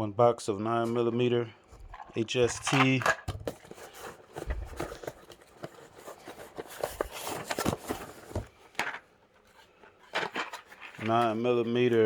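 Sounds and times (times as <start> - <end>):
hands rustling ammunition boxes: 1.6 - 12.0.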